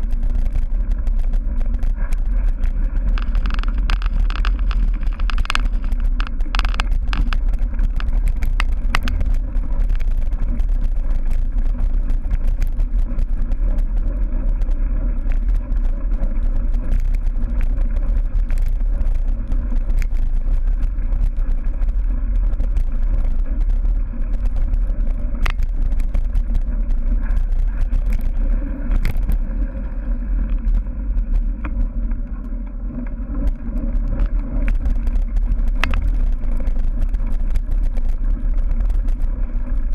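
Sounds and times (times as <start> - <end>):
bike clicks and rattles: 0.0 - 39.9
wind and ground rumble: 0.0 - 39.9.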